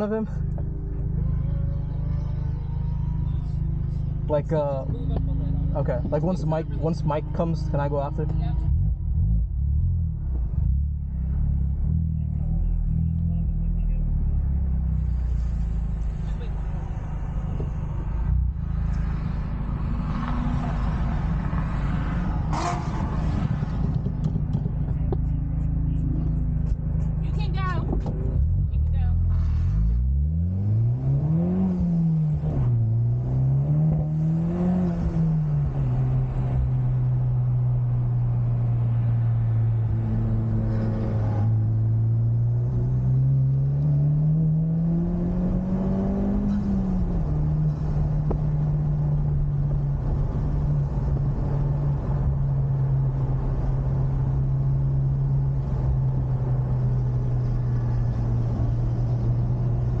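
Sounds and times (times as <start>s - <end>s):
car engine revving: 0.0s - 60.0s
road noise: 0.0s - 60.0s.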